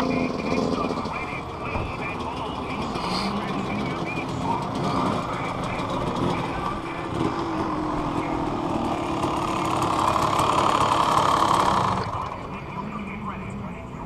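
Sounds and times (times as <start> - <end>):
dirt bike engines idling: 0.0 - 14.0.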